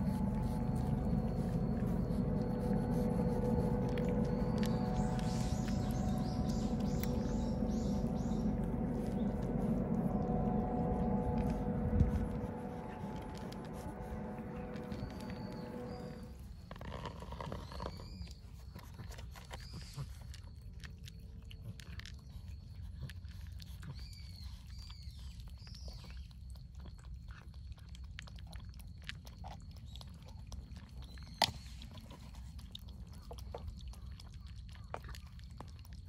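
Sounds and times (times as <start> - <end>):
cat lapping milk: 0.0 - 36.0
cats crunching kibble: 0.0 - 36.0.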